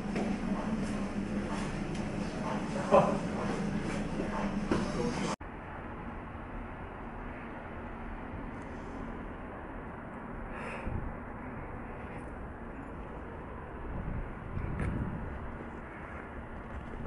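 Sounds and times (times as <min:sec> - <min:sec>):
distant city traffic: 0:00.0 - 0:17.0.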